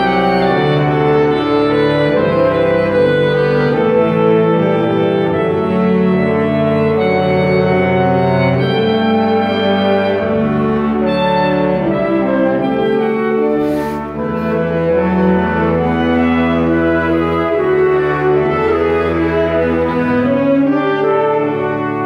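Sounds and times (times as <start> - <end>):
saxophone ensemble playing chords: 0.0 - 22.0.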